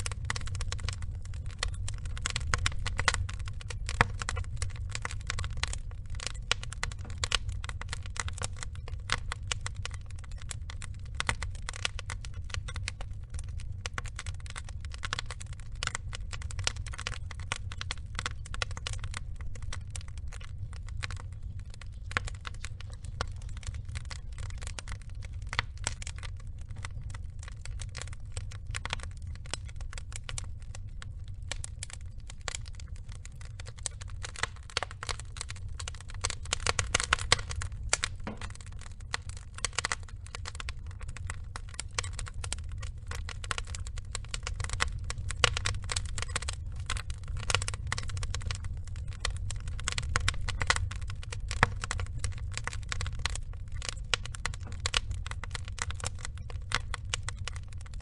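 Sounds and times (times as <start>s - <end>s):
burning logs crackling and popping: 0.0s - 58.0s
low rumble of fire: 0.0s - 58.0s.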